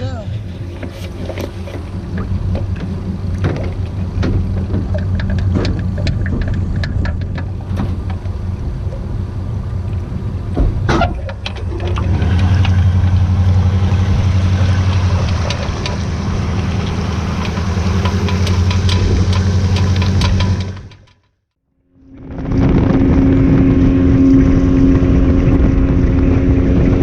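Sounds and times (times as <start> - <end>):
outboard motor running: 0.0 - 21.2, 22.0 - 27.0.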